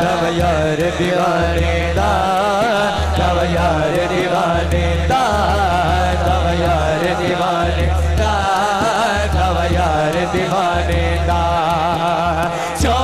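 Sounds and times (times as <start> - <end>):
man singing devotional line: 0.0 - 13.0.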